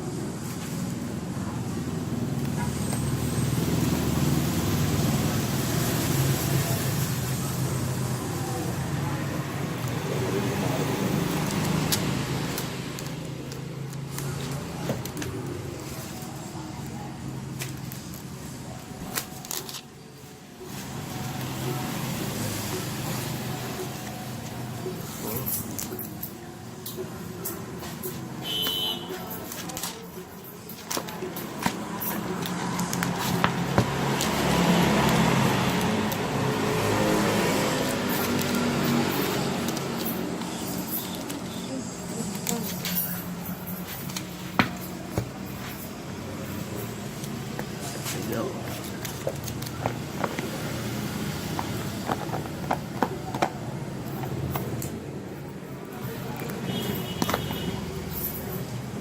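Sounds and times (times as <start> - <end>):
low traffic hum: 0.0 - 59.0.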